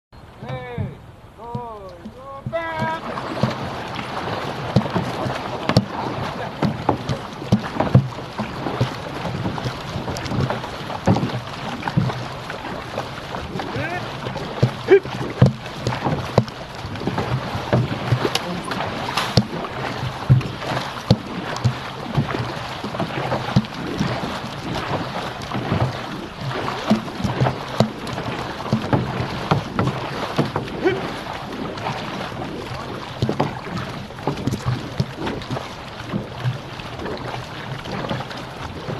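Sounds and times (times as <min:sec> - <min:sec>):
paddles pulling through water: 0:00.2 - 0:38.9
water rushing along hull: 0:00.2 - 0:38.9
sharp splashes and knocks: 0:00.4 - 0:38.9.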